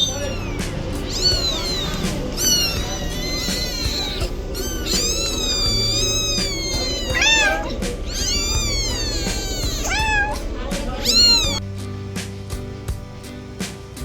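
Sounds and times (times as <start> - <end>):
cat meowing: 0.0 - 11.6
background music: 0.0 - 14.0.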